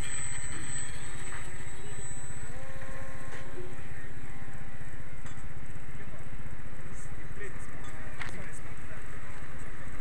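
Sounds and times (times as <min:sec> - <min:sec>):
electric motor propeller whine: 0:00.0 - 0:10.0.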